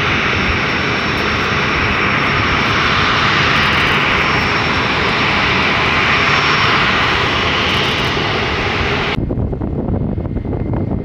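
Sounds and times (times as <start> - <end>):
jet engines roaring: 0.0 - 11.0
low rumble: 0.0 - 11.0.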